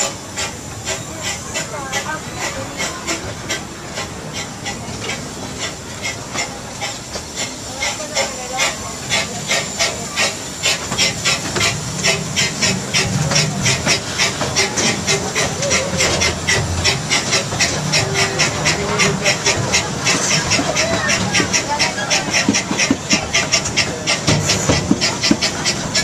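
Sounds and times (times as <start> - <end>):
steam locomotive chuffing: 0.0 - 26.0
train rumbling on track: 0.0 - 26.0.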